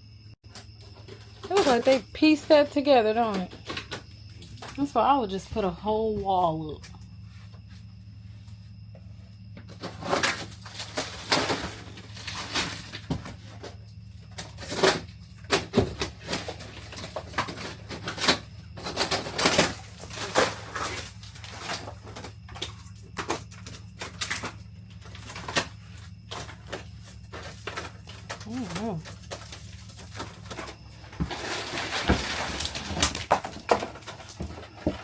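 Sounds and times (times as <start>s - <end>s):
knocks scrapes and rustles: 3.2s - 35.0s.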